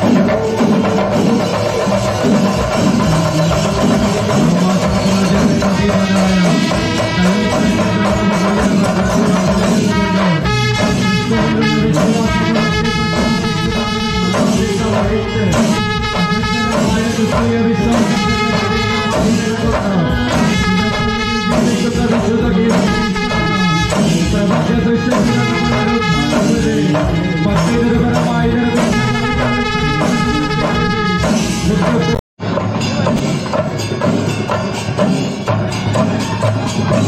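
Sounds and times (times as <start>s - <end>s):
brass band playing: 0.0s - 32.5s
drums: 0.0s - 37.0s.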